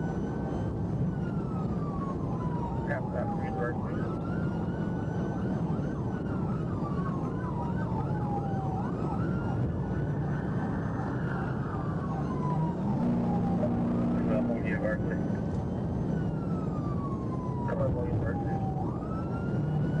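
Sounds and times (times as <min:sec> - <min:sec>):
car engine and road noise: 0:00.0 - 0:20.0
police siren wailing: 0:00.0 - 0:20.0
siren yelp: 0:00.0 - 0:20.0.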